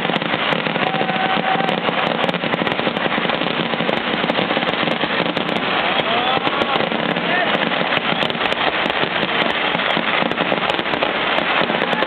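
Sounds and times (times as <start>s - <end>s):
firecracker bangs and crackle: 0.0s - 12.0s.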